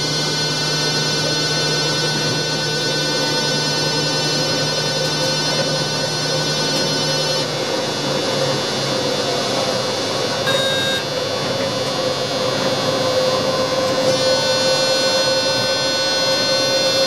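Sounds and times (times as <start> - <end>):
brief tone: 0.0 - 7.6, 8.6 - 17.0
electric train hum and whine: 0.0 - 17.0.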